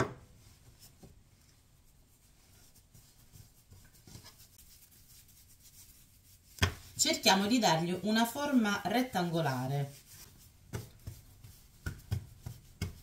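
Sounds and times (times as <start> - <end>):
hands patting dough: 0.0 - 13.0.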